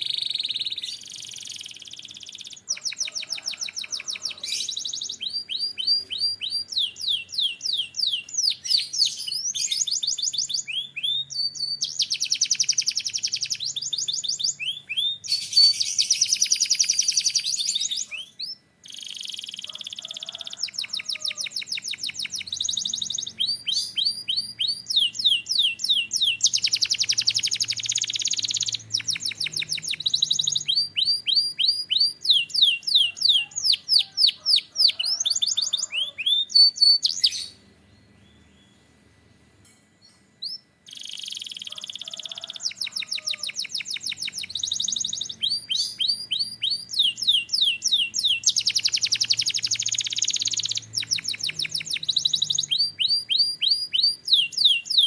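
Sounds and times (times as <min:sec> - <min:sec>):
canary singing trills: 0:00.0 - 0:39.0, 0:40.0 - 0:55.0.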